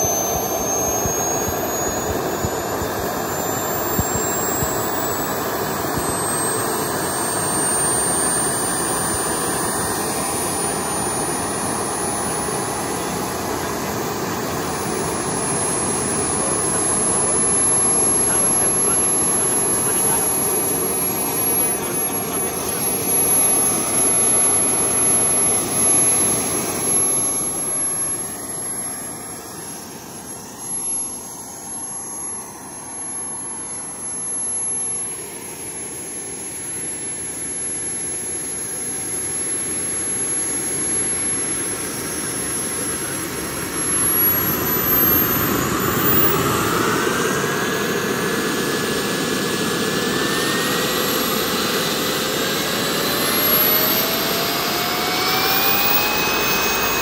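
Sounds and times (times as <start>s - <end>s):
rushing exhaust: 0.0s - 30.3s, 41.6s - 57.0s
helicopter rotor turning: 0.0s - 57.0s
turbine engine whine: 0.0s - 57.0s.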